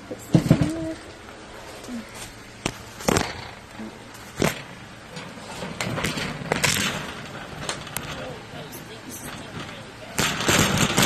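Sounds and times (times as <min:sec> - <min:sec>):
scraping and rustling: 0:00.3 - 0:11.0.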